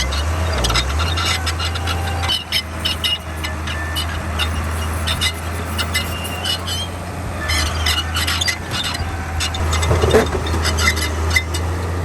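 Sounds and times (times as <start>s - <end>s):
diesel engine droning: 0.0s - 12.0s
short high squeals: 0.0s - 12.0s.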